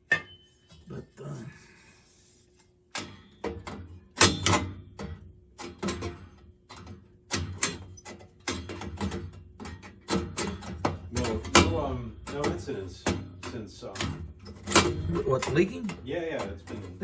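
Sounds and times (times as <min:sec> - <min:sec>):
sharp knocks and clanks: 0:02.9 - 0:17.0.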